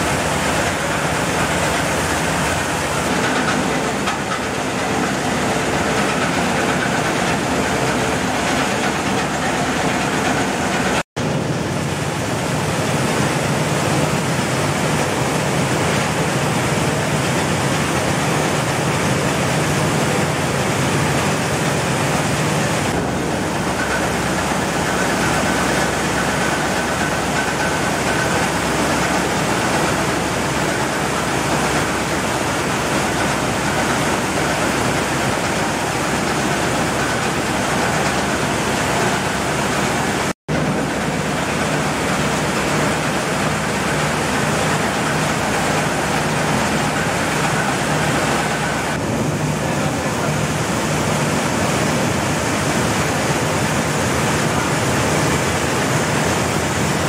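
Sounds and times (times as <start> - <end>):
mill machinery running: 0.0 - 57.0.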